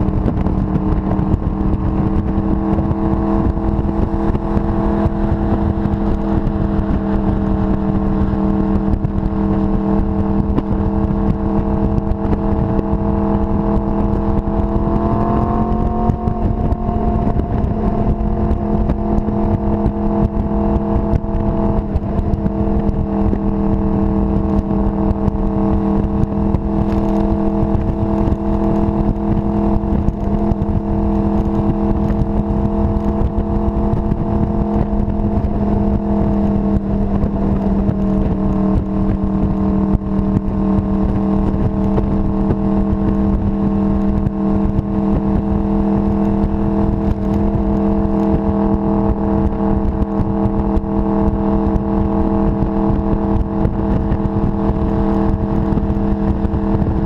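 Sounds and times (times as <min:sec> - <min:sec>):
motorcycle engine cruising: 0:00.0 - 0:57.0
wind rumble on microphone: 0:00.0 - 0:57.0.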